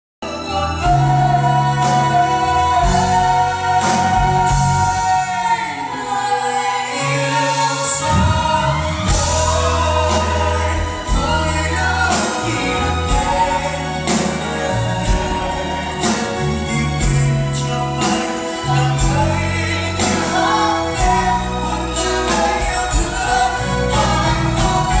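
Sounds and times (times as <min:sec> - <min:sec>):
live band playing: 0:00.2 - 0:25.0
person singing: 0:00.2 - 0:25.0
drums hitting: 0:00.8 - 0:05.8, 0:07.8 - 0:25.0.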